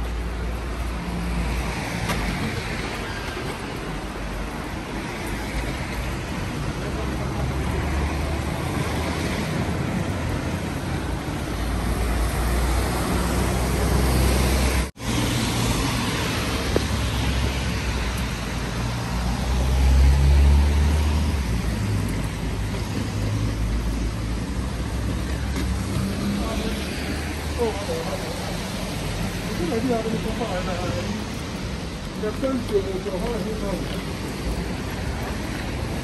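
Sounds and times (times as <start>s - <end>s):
car engines rumbling: 0.0s - 36.0s
tyres hissing on wet road: 0.0s - 36.0s.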